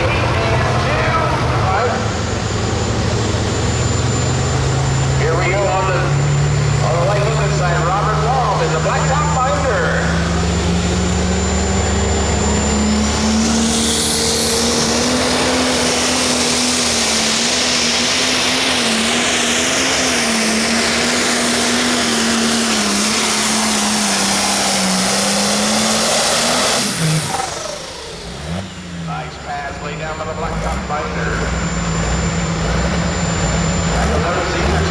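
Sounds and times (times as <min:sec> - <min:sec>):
tractor engine under load: 0:00.0 - 0:34.9.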